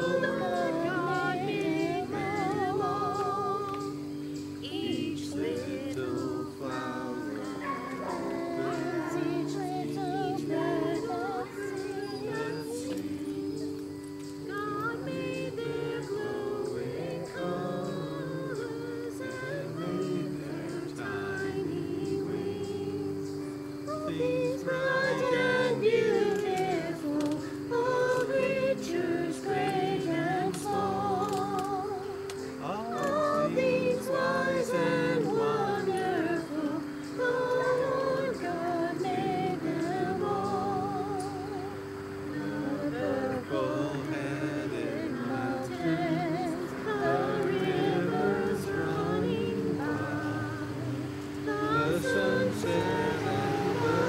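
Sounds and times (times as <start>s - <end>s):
congregation singing a hymn: 0.0s - 54.0s
woman singing with vibrato: 0.0s - 54.0s.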